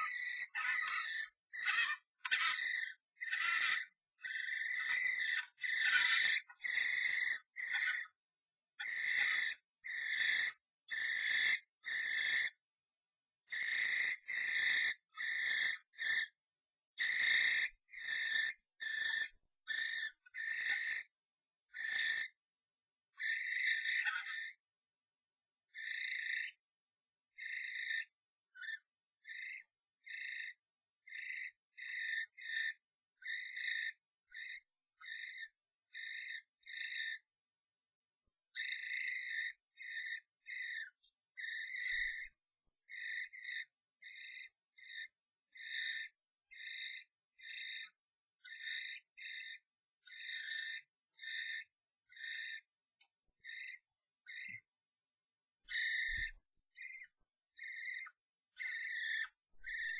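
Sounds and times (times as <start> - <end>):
starlings screeching: 0.0 - 8.2, 8.8 - 12.6, 13.5 - 16.4, 17.0 - 21.1, 21.8 - 22.4, 23.2 - 24.6, 25.8 - 26.6, 27.4 - 37.2, 38.6 - 42.3, 42.9 - 52.7, 55.7 - 59.9.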